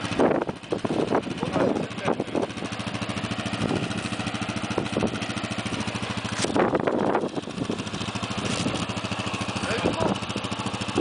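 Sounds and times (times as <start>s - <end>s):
atv engine at low revs: 0.0s - 11.0s.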